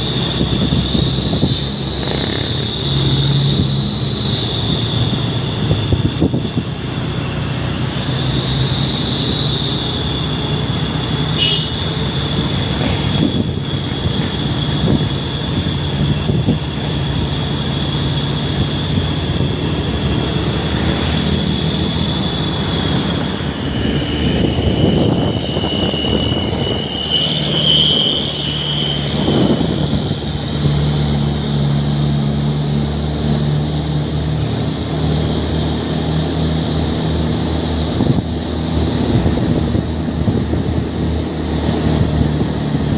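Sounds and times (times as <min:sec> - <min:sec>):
diesel truck engine running: 0:00.0 - 0:42.9
high steady whine: 0:00.0 - 0:42.9.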